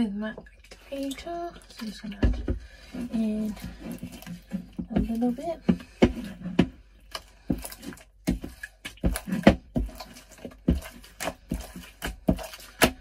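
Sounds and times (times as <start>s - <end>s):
slime squelching by hand: 0.1s - 13.0s.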